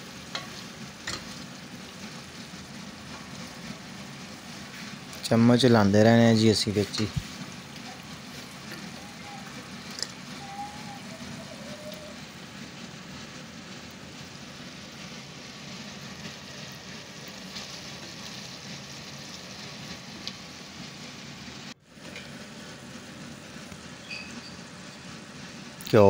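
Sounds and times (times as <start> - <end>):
chicken sizzling in a pot: 0.0 - 26.0.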